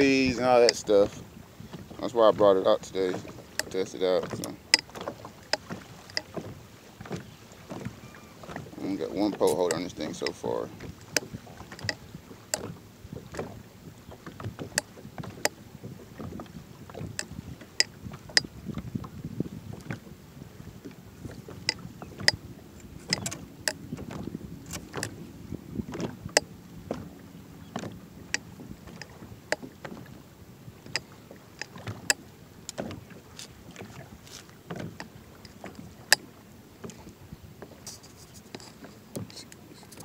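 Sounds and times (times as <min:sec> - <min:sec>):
rumble of wind and water: 0:00.0 - 0:40.0
waves slapping against kayak hull: 0:00.0 - 0:40.0.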